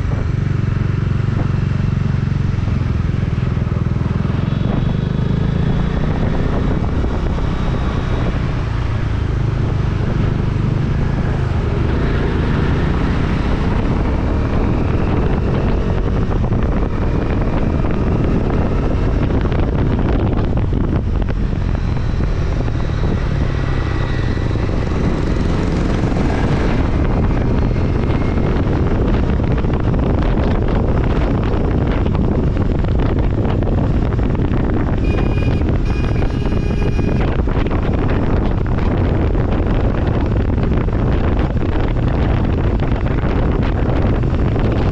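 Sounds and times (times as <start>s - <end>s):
road noise: 0.0s - 44.9s
wind noise on microphone: 0.0s - 44.9s
vehicle engine running: 8.2s - 44.9s.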